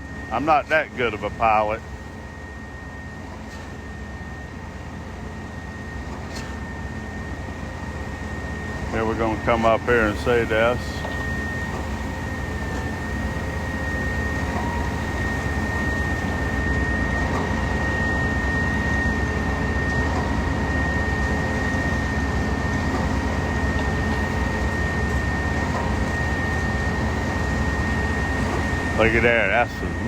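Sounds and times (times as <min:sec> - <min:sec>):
heavy machinery low rumble: 0:00.0 - 0:30.0
high-pitched whine: 0:00.0 - 0:30.0.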